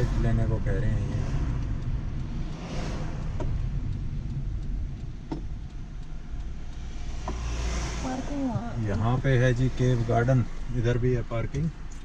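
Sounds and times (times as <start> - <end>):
car engine and tyre rumble: 0.0 - 12.0
road hiss: 0.0 - 12.0.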